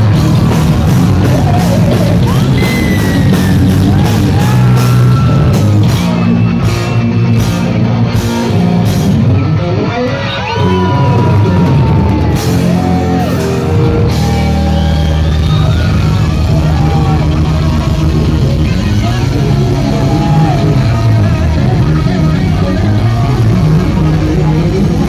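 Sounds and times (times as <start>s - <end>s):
distorted electric guitars: 0.0s - 25.0s
drums: 0.0s - 25.0s
electric bass: 0.0s - 25.0s.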